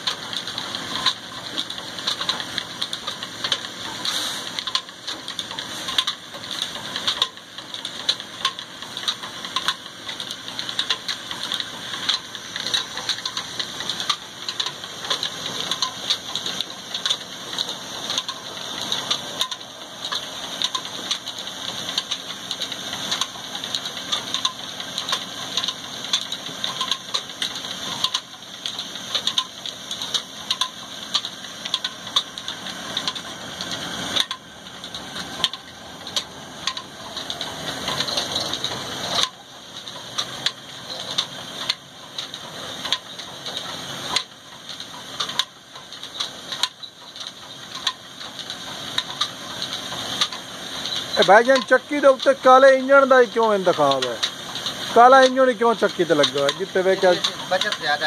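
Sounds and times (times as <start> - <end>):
diesel engine running: 0.0 - 58.0
stone mill grinding grain: 0.0 - 58.0.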